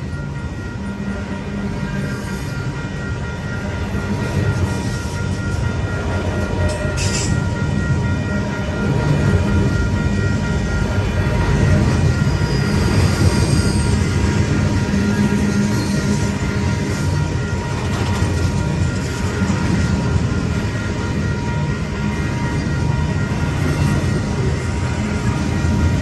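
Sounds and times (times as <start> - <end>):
diesel train rumbling: 0.0 - 26.0.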